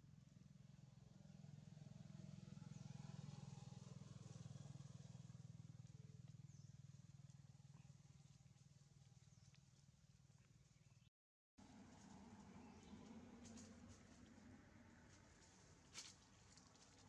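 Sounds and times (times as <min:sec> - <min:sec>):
faint low engine hum: 0:00.0 - 0:17.0.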